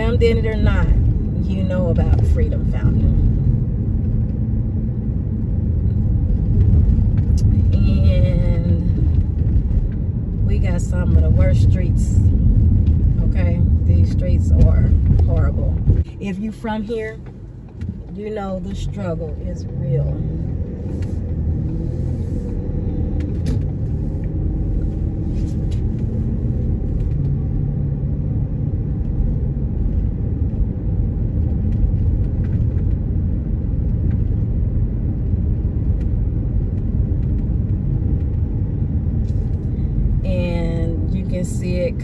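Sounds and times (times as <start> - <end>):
tyres rumbling on rough pavement: 0.0 - 42.0.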